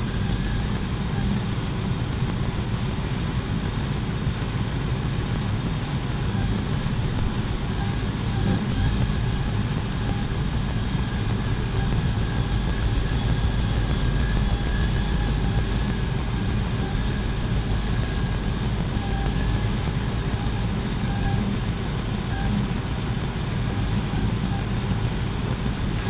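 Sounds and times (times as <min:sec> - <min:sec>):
faint high whine: 0:00.0 - 0:26.0.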